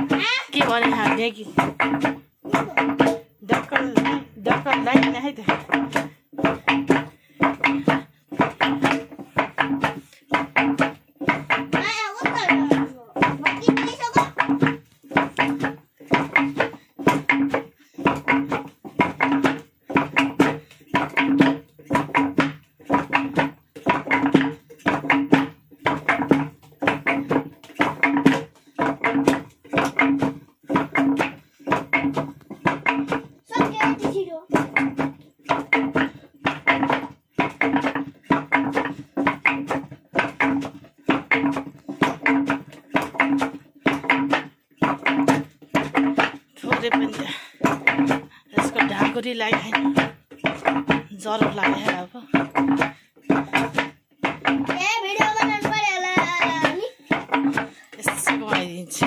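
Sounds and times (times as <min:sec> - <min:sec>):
hand drum playing rhythm: 0:00.0 - 0:59.0
music with repeating beat: 0:00.0 - 0:59.0.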